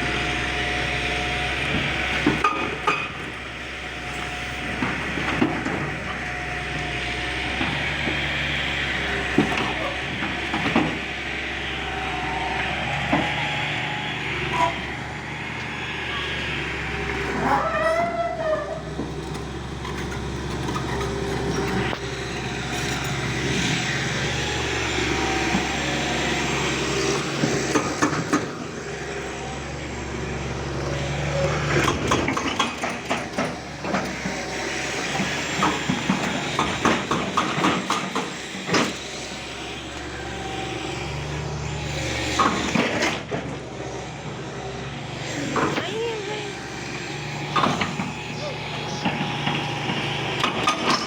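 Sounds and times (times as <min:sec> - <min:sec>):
diesel machine engine running: 0:00.0 - 0:51.0.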